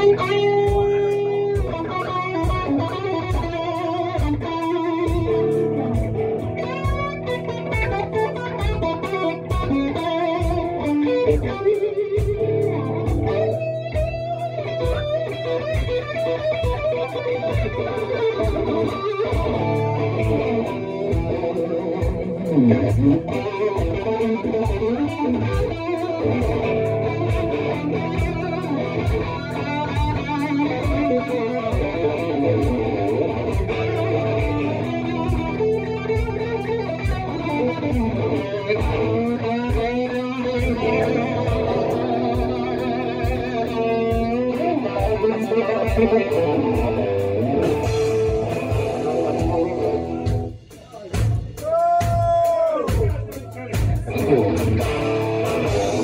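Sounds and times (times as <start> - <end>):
electric guitar playing: 0.0 - 56.0
rhythmic pulse: 0.0 - 56.0.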